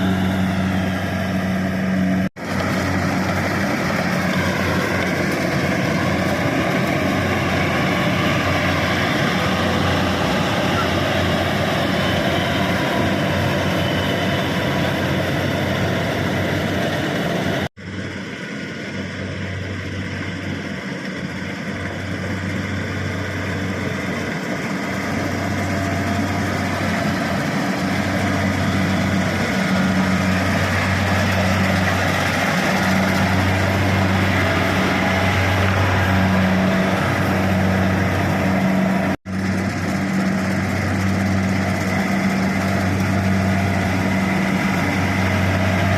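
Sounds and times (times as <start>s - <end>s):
harvester diesel engine droning: 0.0s - 45.9s.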